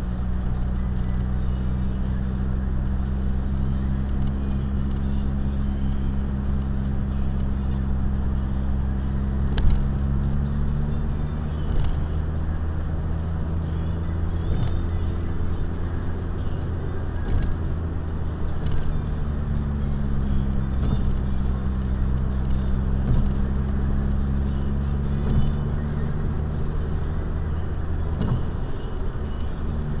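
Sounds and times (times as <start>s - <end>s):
car engine and tyre drone: 0.0s - 30.0s.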